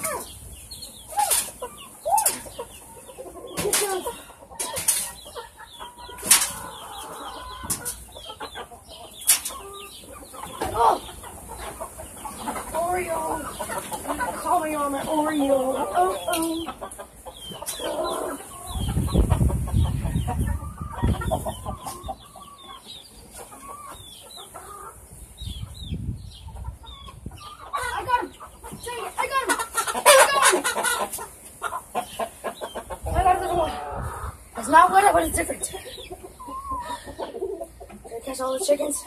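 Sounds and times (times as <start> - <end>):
chickens clucking and squawking: 0.0 - 39.0.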